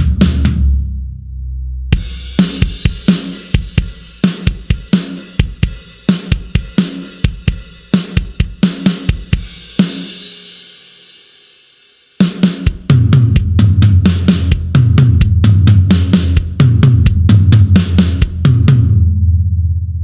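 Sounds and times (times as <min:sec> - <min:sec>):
drum kit groove: 0:00.0 - 0:00.9, 0:01.9 - 0:19.1.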